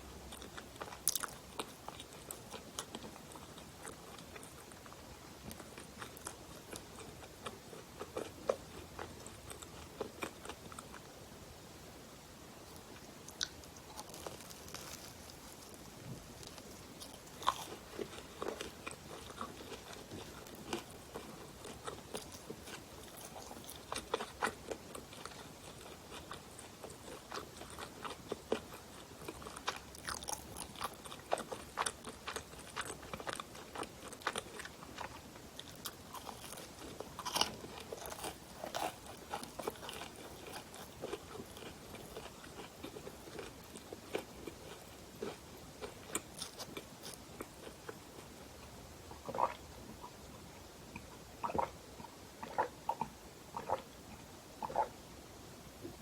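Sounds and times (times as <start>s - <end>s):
crunchy pastry chewing: 0.3s - 11.1s, 12.7s - 50.2s.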